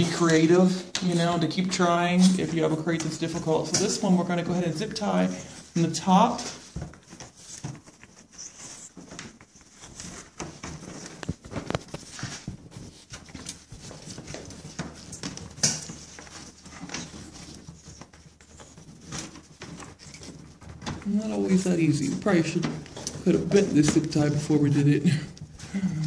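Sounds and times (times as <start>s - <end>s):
plastic rustling: 0.0s - 26.0s.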